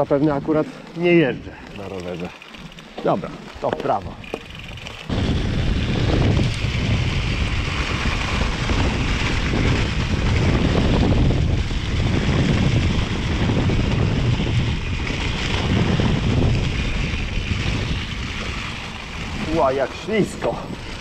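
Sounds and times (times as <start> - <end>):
tyres rolling over wet leaves: 0.0 - 21.0
wind buffeting microphone: 2.9 - 21.0.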